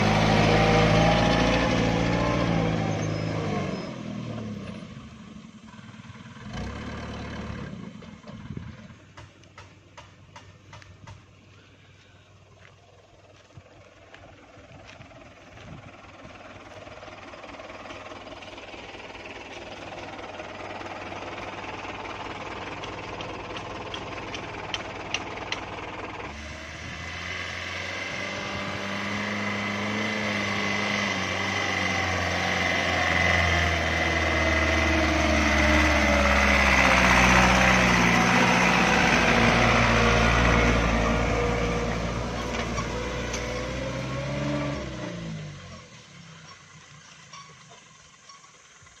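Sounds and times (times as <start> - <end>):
truck engine under load: 0.0 - 49.0.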